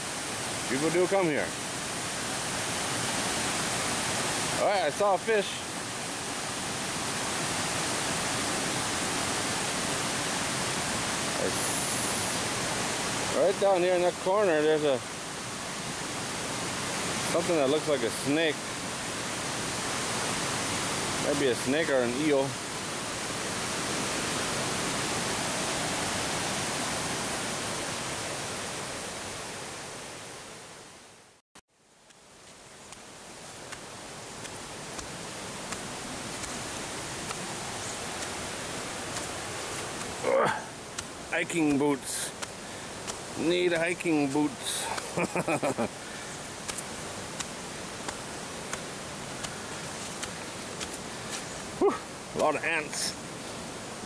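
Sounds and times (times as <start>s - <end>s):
water rushing over waterfall: 0.0s - 31.0s, 32.1s - 54.0s.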